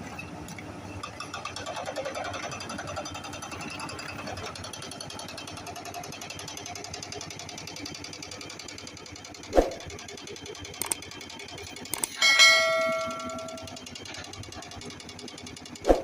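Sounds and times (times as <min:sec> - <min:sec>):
jackhammer rattling: 0:01.0 - 0:15.9.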